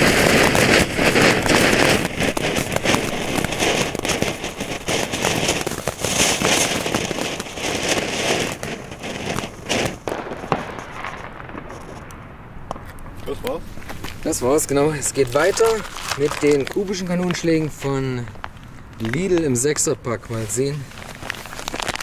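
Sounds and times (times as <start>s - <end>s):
firework fountain hissing and crackling: 0.0s - 22.0s.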